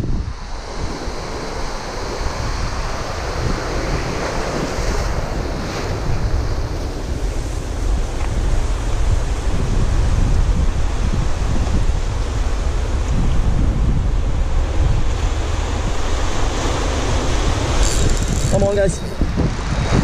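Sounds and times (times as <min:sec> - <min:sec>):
ocean surf over rocks: 0:00.0 - 0:20.0
wave surging and foaming: 0:00.0 - 0:20.0
wind rumble on microphone: 0:00.0 - 0:20.0.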